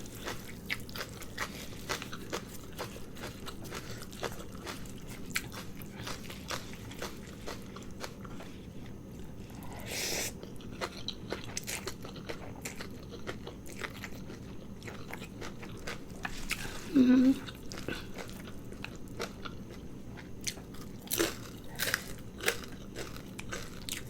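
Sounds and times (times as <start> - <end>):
crunchy clicks of chewing: 0.0 - 9.6, 10.4 - 16.6, 17.4 - 24.0
chewing and biting food: 0.0 - 9.8, 10.4 - 24.0.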